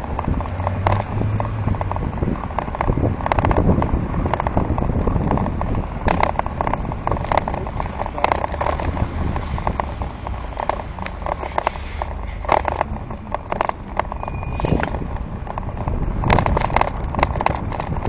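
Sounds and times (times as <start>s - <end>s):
traffic: 0.0s - 18.0s
tyres rumbling on road: 0.0s - 18.0s
wind: 0.0s - 18.0s
bicycle rattling clicks: 0.2s - 18.0s.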